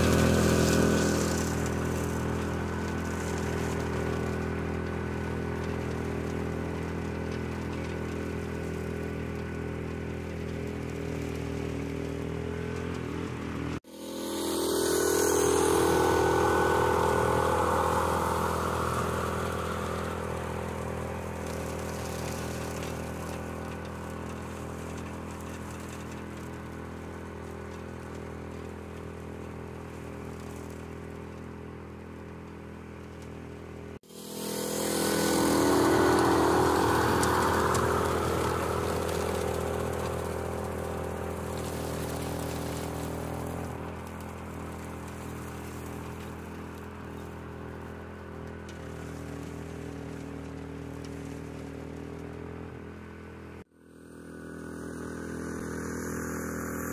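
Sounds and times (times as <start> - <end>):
rotary cutter cutting grass: 0.0 - 56.9
tractor engine running under load: 0.0 - 56.9.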